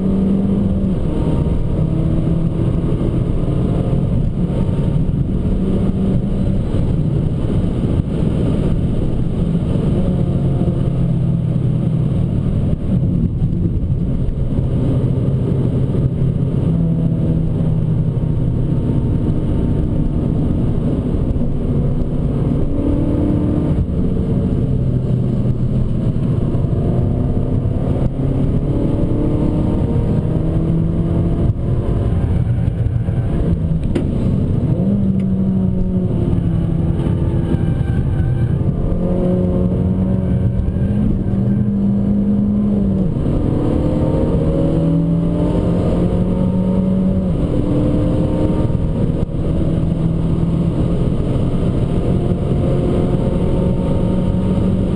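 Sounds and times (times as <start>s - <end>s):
car engine accelerating: 0.0s - 54.9s
road noise: 0.0s - 54.9s.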